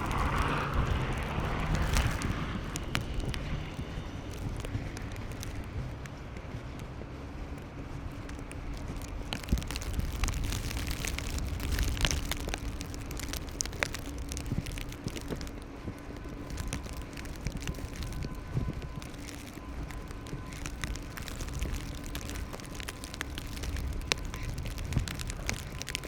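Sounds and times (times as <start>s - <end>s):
crackling clicks: 0.0s - 26.0s
wind rumble on microphone: 0.0s - 26.0s.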